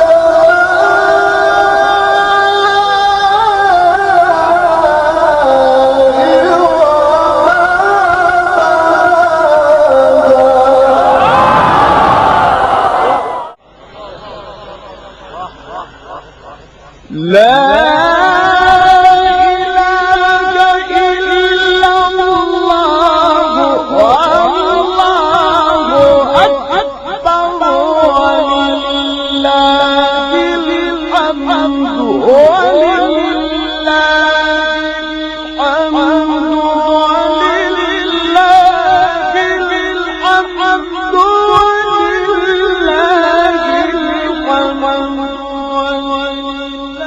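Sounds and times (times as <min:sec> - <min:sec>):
man chanting melodically: 0:00.0 - 0:11.5, 0:13.9 - 0:47.0
man reciting in long held notes: 0:00.0 - 0:11.6, 0:13.8 - 0:47.0.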